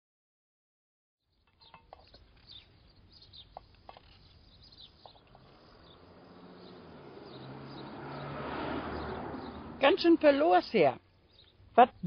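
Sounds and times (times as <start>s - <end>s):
outdoor background noise: 1.2s - 12.0s
small birds chirping: 1.3s - 12.0s.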